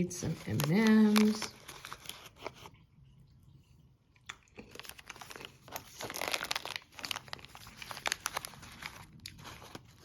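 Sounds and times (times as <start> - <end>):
plastic snack pouch crinkling: 0.0 - 2.8, 4.3 - 10.0.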